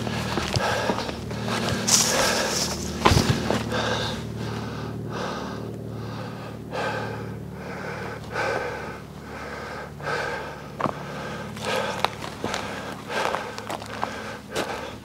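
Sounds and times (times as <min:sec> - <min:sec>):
person breathing heavily: 0:00.0 - 0:15.0.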